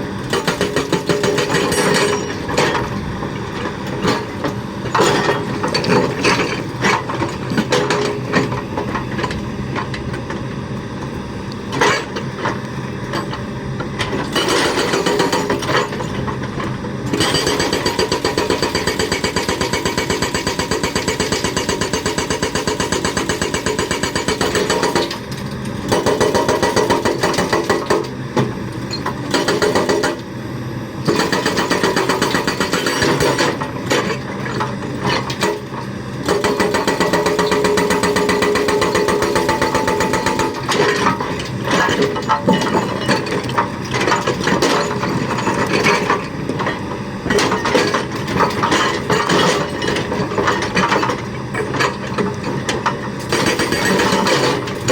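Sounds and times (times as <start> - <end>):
excavator engine running: 0.0 - 54.9
hydraulic breaker hammering: 0.2 - 9.1, 14.1 - 30.2, 31.0 - 54.9.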